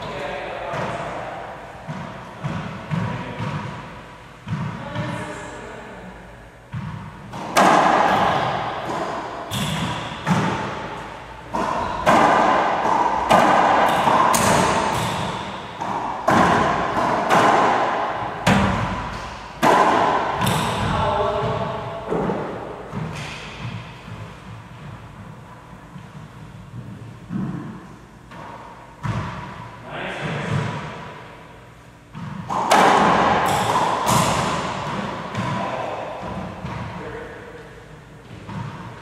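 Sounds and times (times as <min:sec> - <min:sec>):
racquetball cracks echoing: 0:06.7 - 0:26.4, 0:27.2 - 0:39.0.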